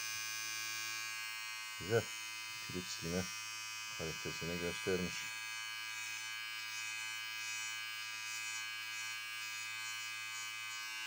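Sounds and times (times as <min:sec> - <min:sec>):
electric trimmer buzzing: 0:00.0 - 0:11.0.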